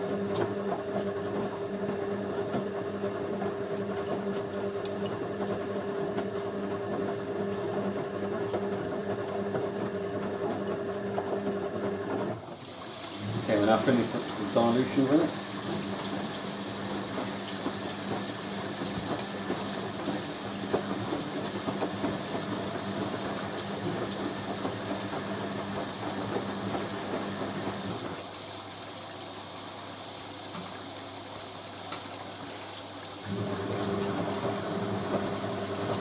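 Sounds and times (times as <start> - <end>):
washing machine pump humming: 0.0 - 36.0.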